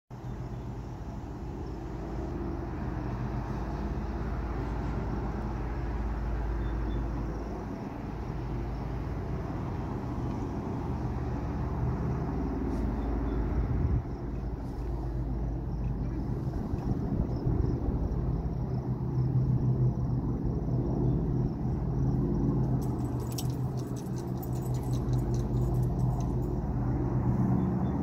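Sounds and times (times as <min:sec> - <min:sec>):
airplanes droning overhead: 0:00.1 - 0:28.0.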